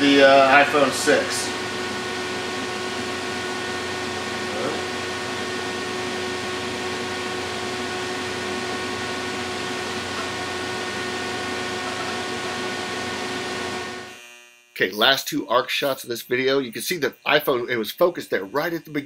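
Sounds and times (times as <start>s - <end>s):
air conditioner hiss and hum: 0.0s - 12.3s, 14.8s - 19.0s.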